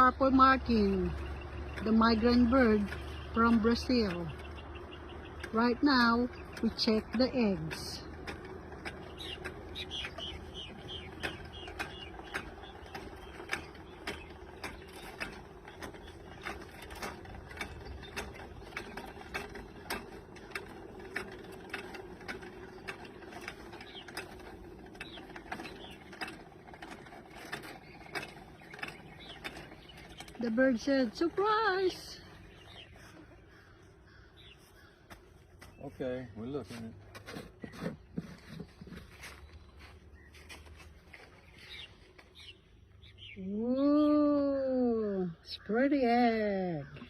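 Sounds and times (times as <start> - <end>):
ratcheting winch clicking: 0.0 - 39.0.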